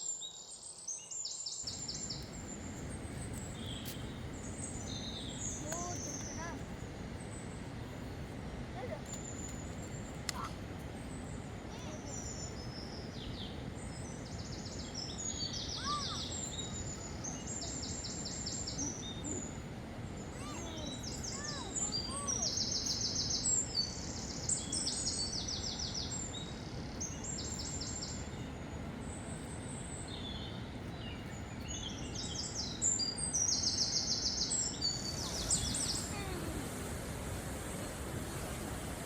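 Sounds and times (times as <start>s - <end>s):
birds with high-pitched trills: 0.0s - 8.1s, 8.8s - 37.3s
lower bird chirps: 0.0s - 8.2s, 8.8s - 39.0s
background hiss: 0.0s - 39.0s.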